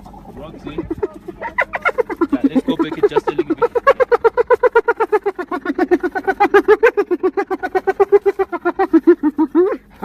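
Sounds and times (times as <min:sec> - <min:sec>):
animal making rapid short calls: 0:00.6 - 0:10.0.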